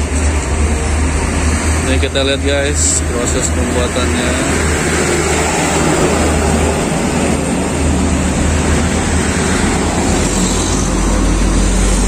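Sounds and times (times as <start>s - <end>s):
gas burners roaring: 0.0s - 12.0s
low rumbling hum: 0.0s - 12.0s.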